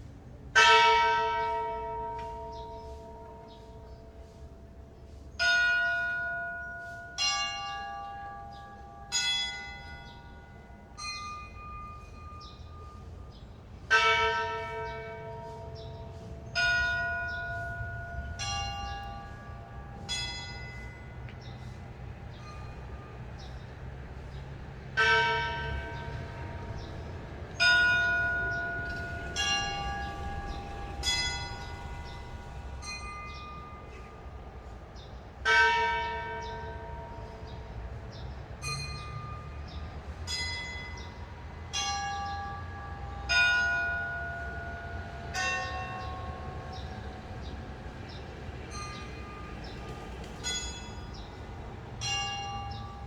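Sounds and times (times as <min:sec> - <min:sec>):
church bells striking: 0:00.5 - 0:53.0.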